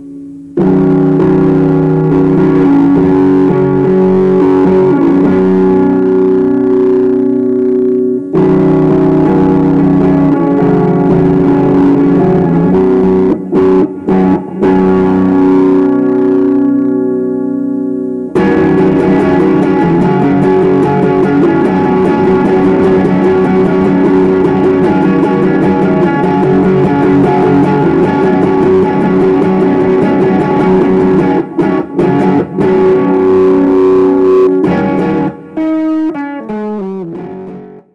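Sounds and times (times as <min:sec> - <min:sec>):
guitar single notes descending: 0:00.0 - 0:37.9
guitar strumming: 0:00.0 - 0:37.9.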